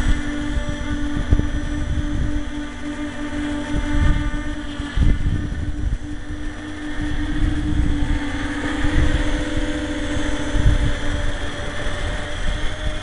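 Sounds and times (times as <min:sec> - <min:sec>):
electric motors and propellers humming: 0:00.0 - 0:13.0
wind buffeting on microphone: 0:00.0 - 0:13.0.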